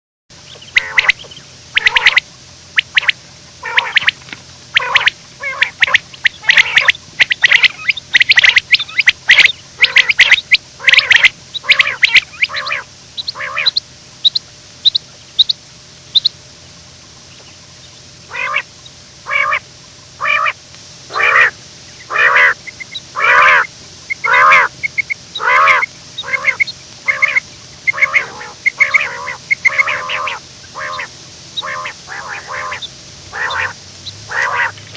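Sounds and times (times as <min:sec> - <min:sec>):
quail calling: 0:00.4 - 0:34.9.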